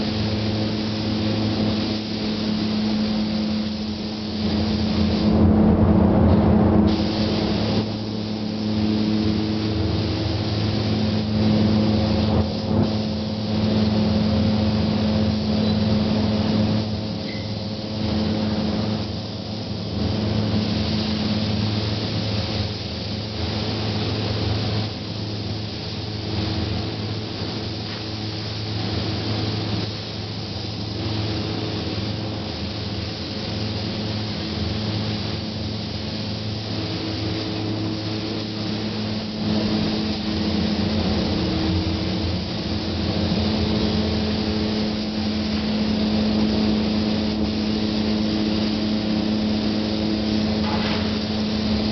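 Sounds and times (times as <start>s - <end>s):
mechanical hum: 0.0s - 51.9s
spray gun hissing: 0.0s - 51.9s.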